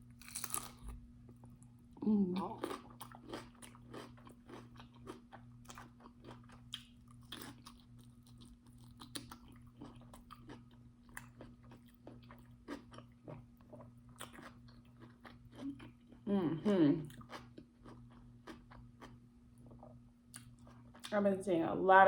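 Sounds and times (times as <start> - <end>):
person chewing crunchy food: 0.0 - 1.7, 2.4 - 16.3, 17.0 - 21.1
faint low hum: 0.0 - 22.0.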